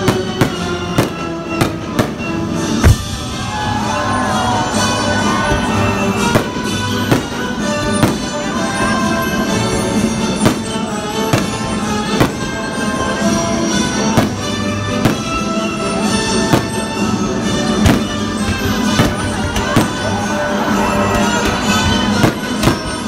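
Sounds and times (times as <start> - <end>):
fireworks bursting: 0.0 - 23.0
orchestral music: 0.0 - 23.0.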